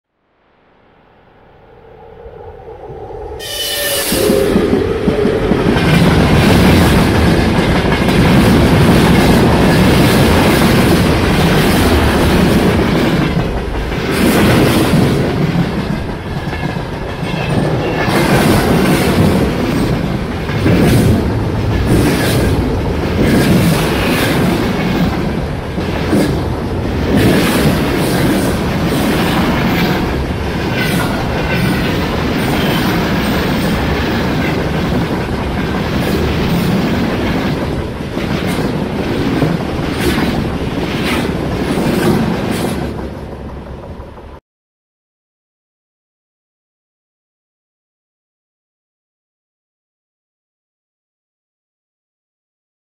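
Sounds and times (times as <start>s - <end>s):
steel wheels rumbling on rails: 1.4s - 44.4s.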